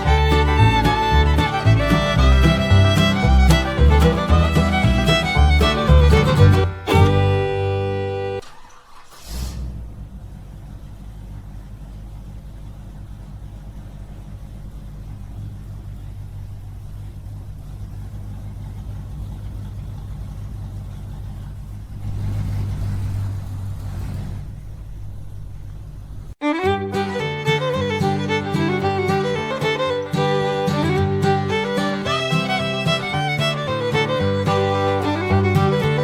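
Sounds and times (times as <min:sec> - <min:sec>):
small engine droning: 0:00.0 - 0:36.0.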